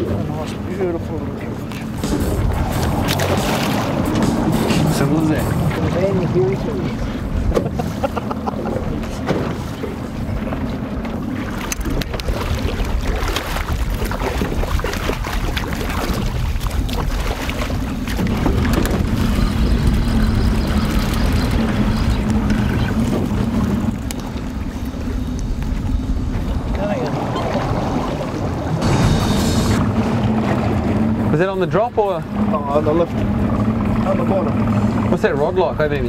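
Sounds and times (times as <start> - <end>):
waves slapping boat hull: 0.0 - 36.0
wind buffeting microphone: 0.0 - 36.0.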